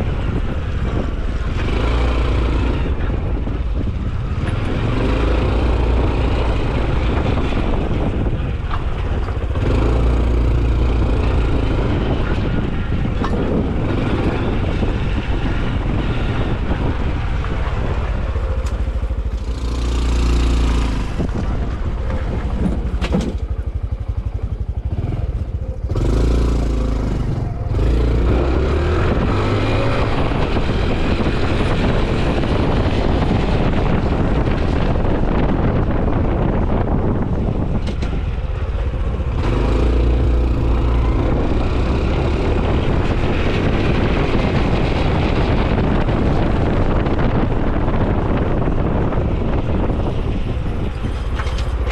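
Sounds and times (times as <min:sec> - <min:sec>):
motorcycle engine running: 0:00.0 - 0:51.9
wind rush: 0:00.0 - 0:51.9.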